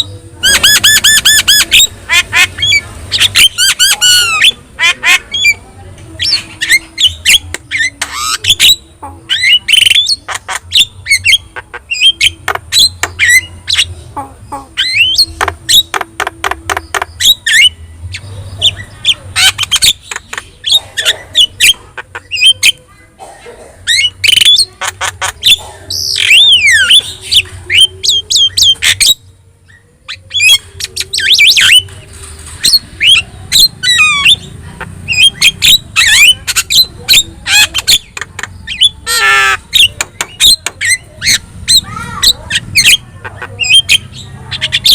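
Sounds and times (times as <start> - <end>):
myna bird singing: 0.0 - 44.9.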